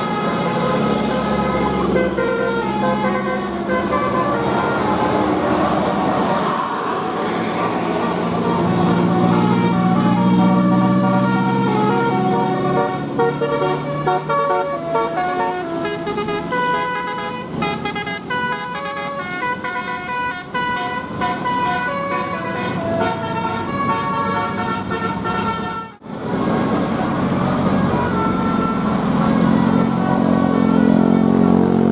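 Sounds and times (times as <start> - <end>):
engine and traffic noise: 0.0 - 31.9
multi-tone bus horn tune: 0.0 - 31.9.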